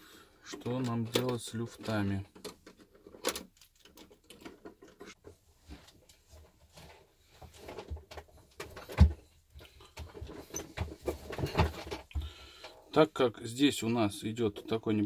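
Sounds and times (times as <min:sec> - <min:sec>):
light clicks and rattles of parts: 0:00.4 - 0:13.0.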